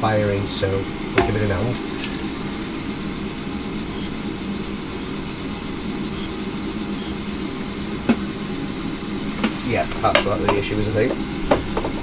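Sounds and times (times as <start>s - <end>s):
boiler fan humming: 0.0s - 12.0s.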